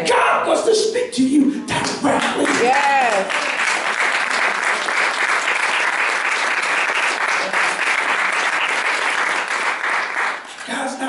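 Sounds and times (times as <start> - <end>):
congregation applauding: 1.8 - 10.9.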